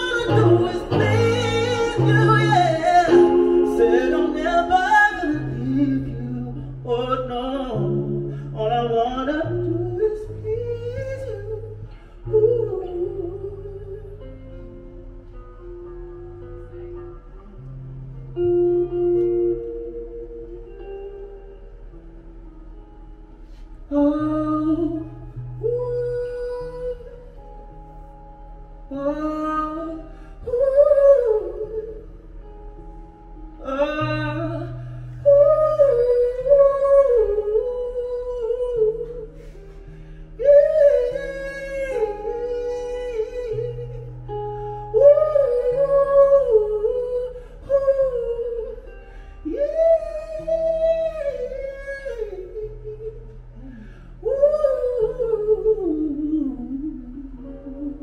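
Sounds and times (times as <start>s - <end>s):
held electric guitar notes: 0.0s - 58.0s.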